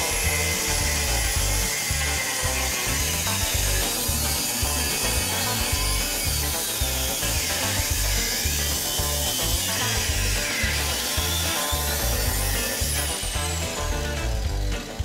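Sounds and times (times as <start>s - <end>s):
background music with bass: 0.0s - 15.0s
power saw cutting metal: 0.0s - 15.0s.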